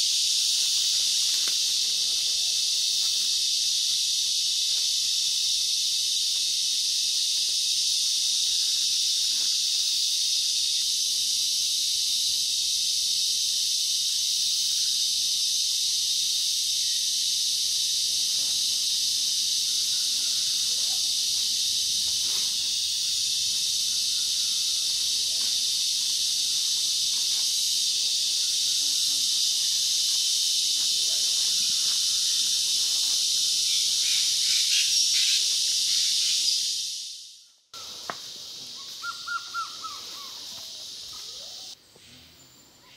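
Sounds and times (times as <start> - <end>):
insect chorus shrilling: 0.0 - 42.9.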